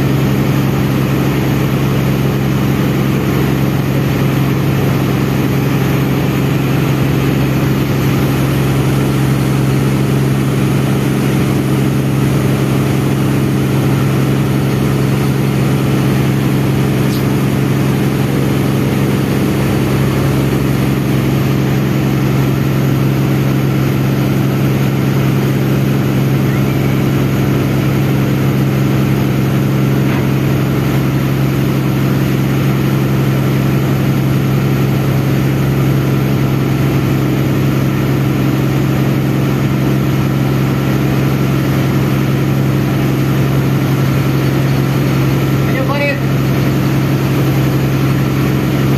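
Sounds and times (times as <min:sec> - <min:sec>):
boat diesel engine droning: 0:00.0 - 0:48.9
water rushing along hull: 0:00.0 - 0:48.9.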